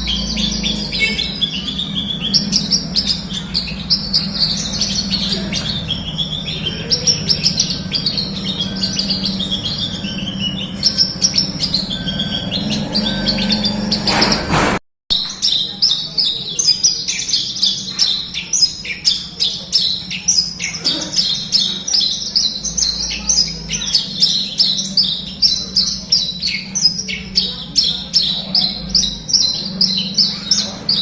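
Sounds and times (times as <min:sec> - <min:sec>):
lark singing twittering song: 0:00.0 - 0:31.0.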